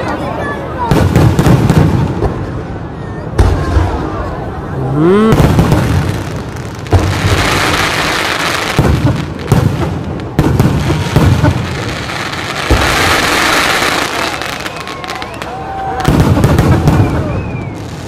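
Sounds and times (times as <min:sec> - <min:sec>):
crackling hiss of fireworks: 0:00.9 - 0:04.1, 0:05.2 - 0:18.0.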